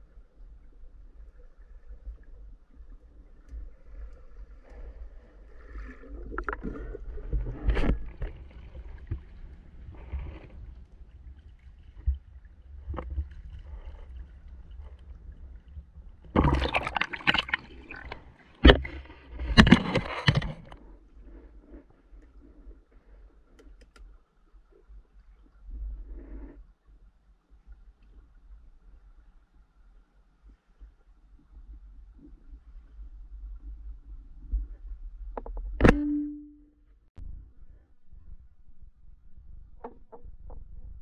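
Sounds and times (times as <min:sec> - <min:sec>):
water gurgling and sloshing: 0:00.0 - 0:41.0.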